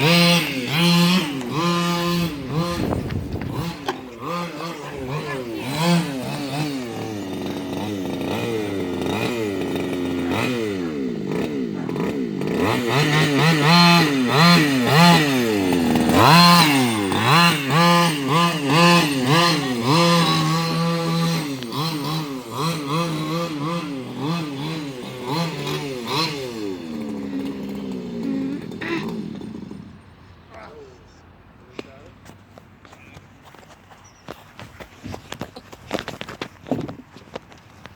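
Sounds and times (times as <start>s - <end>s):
two-stroke engine revving: 0.0s - 30.8s.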